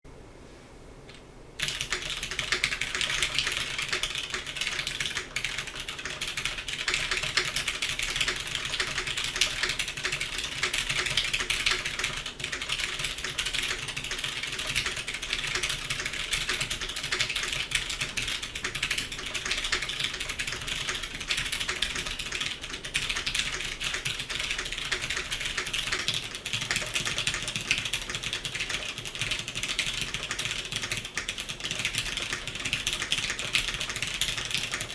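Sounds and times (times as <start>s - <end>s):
fast typing on mechanical keyboard: 1.6s - 34.9s.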